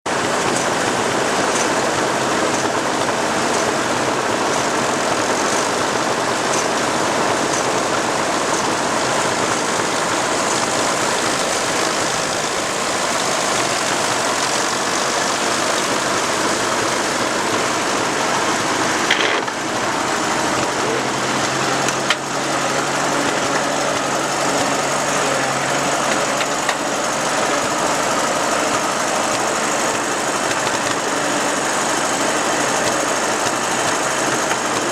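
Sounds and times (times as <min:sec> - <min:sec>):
tractor engines running: 0:00.1 - 0:34.9.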